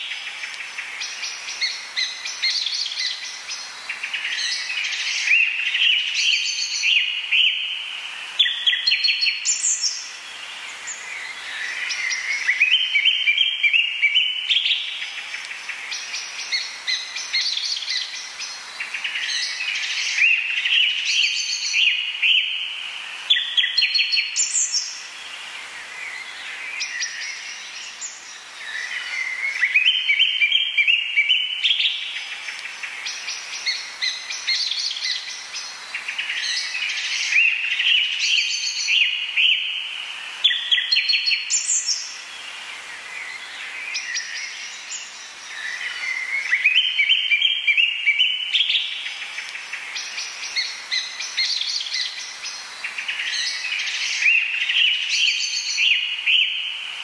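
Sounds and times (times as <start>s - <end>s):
birds chirping and trilling: 0.0s - 57.0s.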